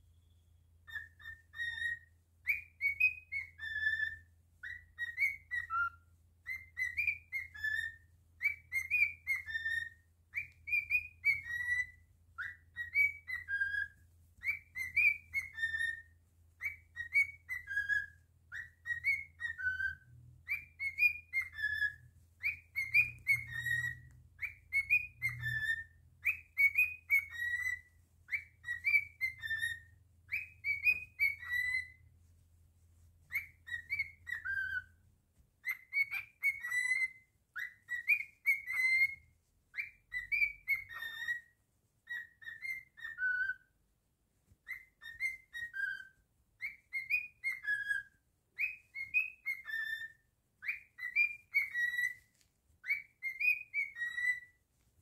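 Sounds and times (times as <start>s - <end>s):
cockatiel whistling: 0.0s - 32.4s, 33.0s - 54.7s.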